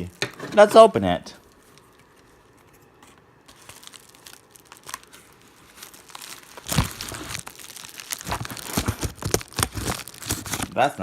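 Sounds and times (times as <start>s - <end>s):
packaging crinkling: 1.4s - 11.0s.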